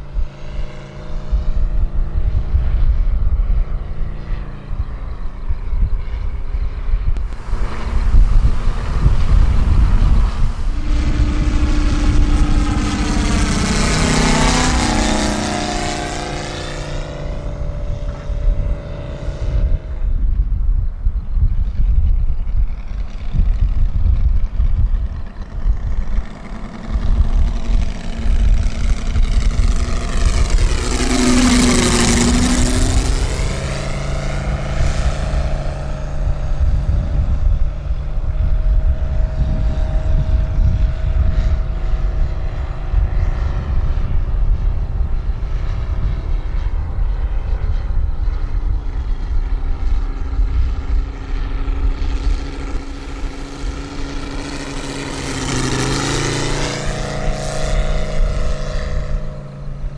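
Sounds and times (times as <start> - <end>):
model plane engine running: 0.0 - 59.9.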